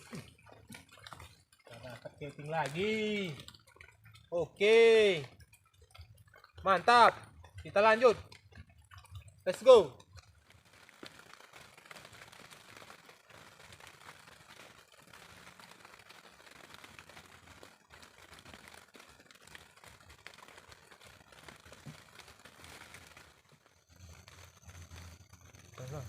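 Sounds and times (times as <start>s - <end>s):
faint rain pattering: 0.0s - 26.0s.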